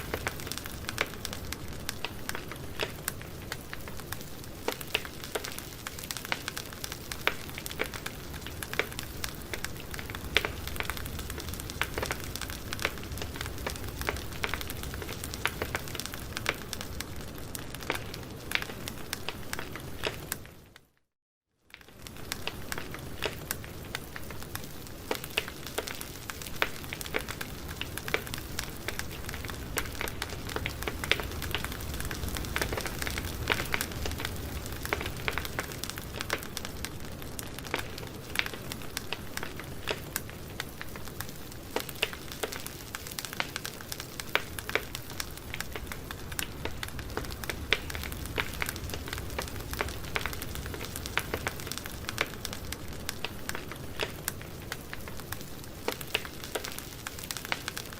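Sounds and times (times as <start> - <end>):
campfire burning: 0.0 - 20.8, 21.7 - 57.9
fire crackles and pops: 0.0 - 21.0, 21.6 - 57.9.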